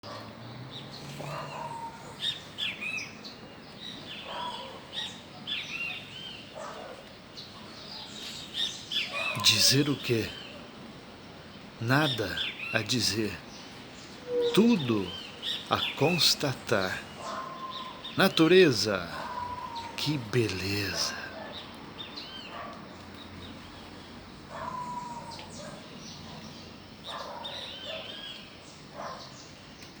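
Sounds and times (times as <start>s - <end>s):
birds chirping: 0.0s - 30.0s
faint background hiss: 0.4s - 30.0s.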